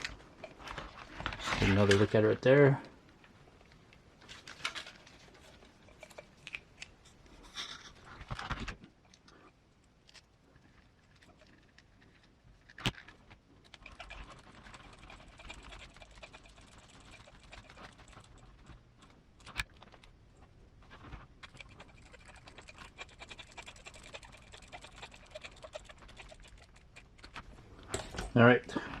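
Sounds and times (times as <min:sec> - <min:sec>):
small parts clicking and tapping: 0:03.8 - 0:20.2, 0:21.0 - 0:28.4.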